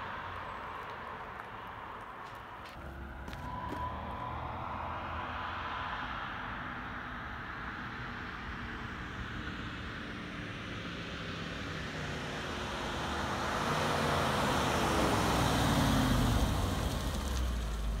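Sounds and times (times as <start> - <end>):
car engine driving by: 0.0 - 9.6, 11.6 - 18.0.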